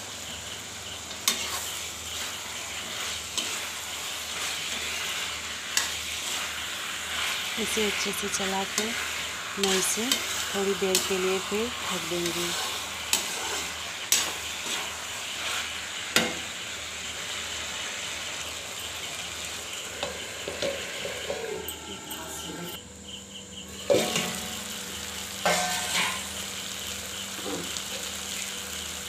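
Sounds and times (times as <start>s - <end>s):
curry sizzling in oil: 0.0s - 29.0s.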